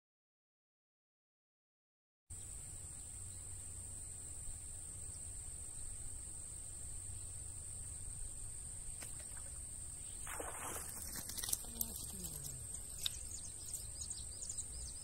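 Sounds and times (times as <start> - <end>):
high-pitched insect chorus: 2.3 - 15.0.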